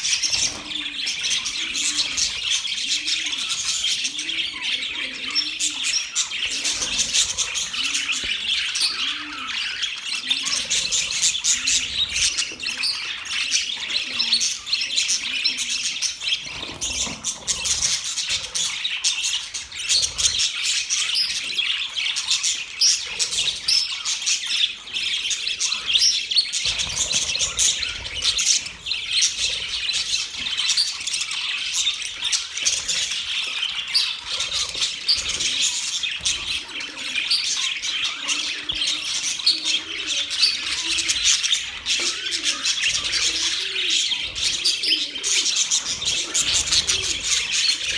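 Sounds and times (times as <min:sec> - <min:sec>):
dove cooing: 0:00.0 - 0:47.9
small birds chirping: 0:00.0 - 0:47.9.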